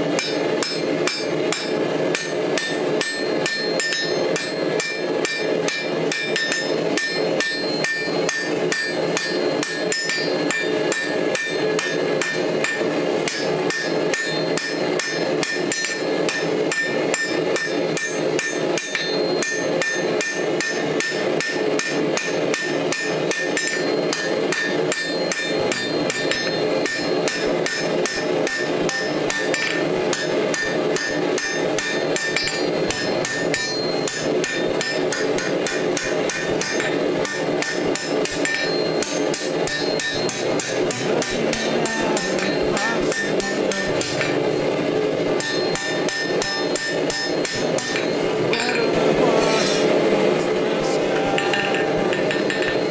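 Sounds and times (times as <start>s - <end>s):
anvil ringing: 0.0s - 52.9s
hammer blows on anvil: 0.0s - 52.9s.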